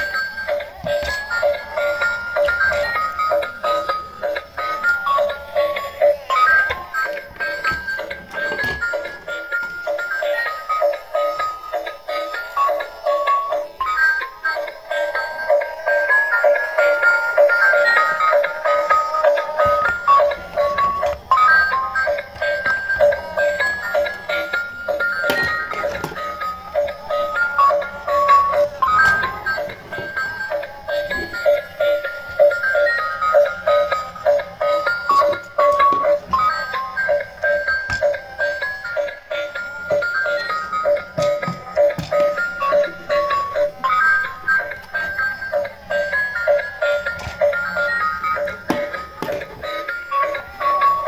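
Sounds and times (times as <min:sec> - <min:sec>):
electronic music: 0:00.0 - 0:51.0.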